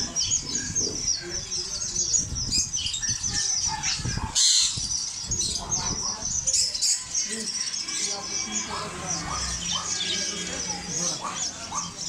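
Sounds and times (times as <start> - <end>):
birds chirping and twittering: 0.0 - 12.0.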